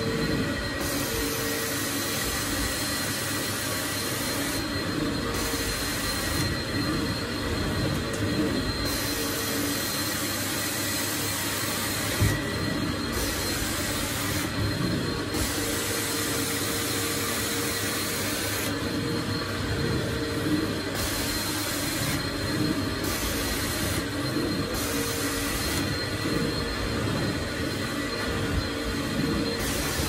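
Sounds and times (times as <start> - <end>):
vacuum motors running: 0.0 - 30.0.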